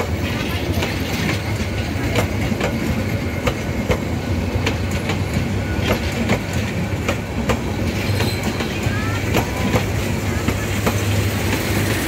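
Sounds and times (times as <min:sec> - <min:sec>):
wheels clicking over rail joints: 0:00.0 - 0:11.9
train wheels rumbling on rails: 0:00.0 - 0:12.0.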